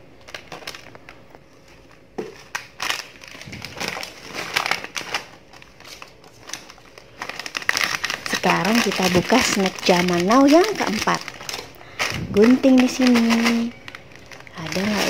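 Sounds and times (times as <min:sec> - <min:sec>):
dry crackers rustling: 0:00.2 - 0:15.0
plastic snack packet crinkling: 0:00.2 - 0:15.0.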